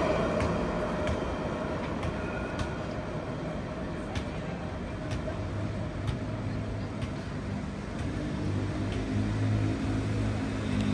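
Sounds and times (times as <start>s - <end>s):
road noise hum: 0.0s - 10.9s
vehicle engine drone: 0.0s - 10.9s.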